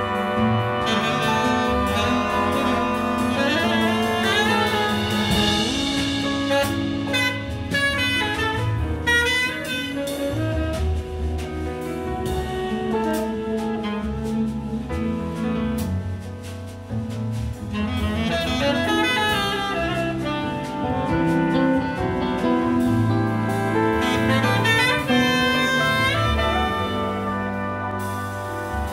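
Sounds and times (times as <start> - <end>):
tenor saxophone: 0.0 - 15.9, 17.7 - 28.9
jazz big band playing: 0.0 - 28.9.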